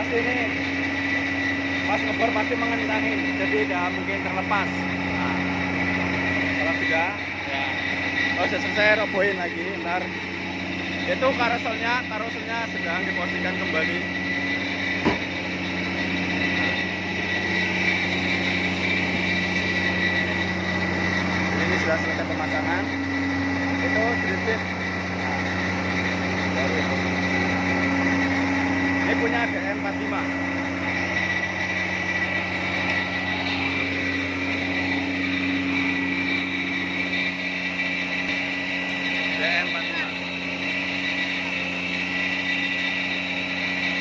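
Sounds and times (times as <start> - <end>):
drill rig engine drone: 0.0 - 44.0
steady high whine: 0.0 - 44.0.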